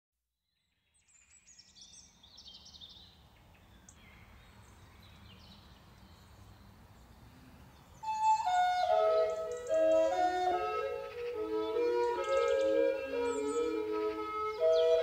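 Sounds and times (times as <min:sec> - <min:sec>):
birds chirping: 0:01.2 - 0:15.0.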